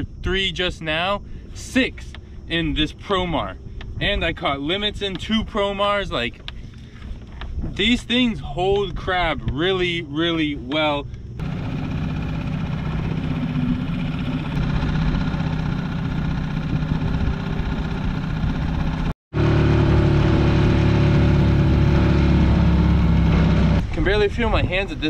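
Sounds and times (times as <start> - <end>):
outboard motor running: 1.2 - 4.2, 5.1 - 8.2, 9.0 - 24.0.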